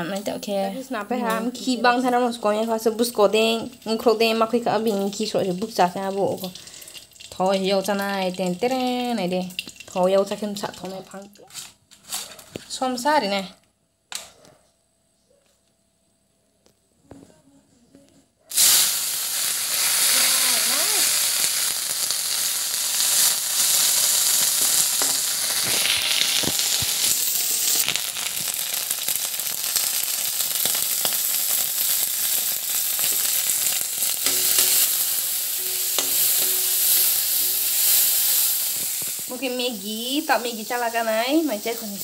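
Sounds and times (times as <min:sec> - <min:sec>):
food sizzling in hot oil: 0:00.0 - 0:11.7, 0:18.5 - 0:42.0.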